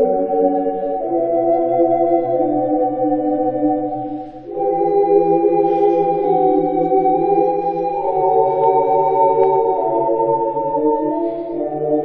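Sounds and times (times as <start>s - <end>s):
ocarina ensemble chords: 0.0s - 12.0s.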